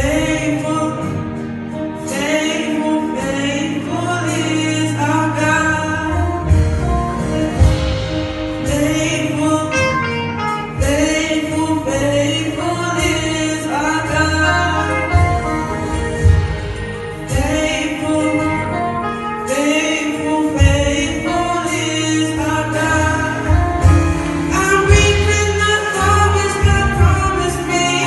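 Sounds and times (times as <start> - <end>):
man singing into a microphone: 0.0 - 7.8, 8.5 - 28.0
band with bass and drums: 0.0 - 28.0.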